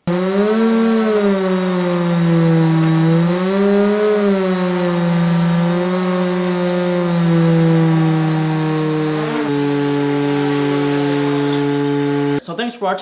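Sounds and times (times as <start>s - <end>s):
theremin buzzing drone: 0.0s - 12.4s.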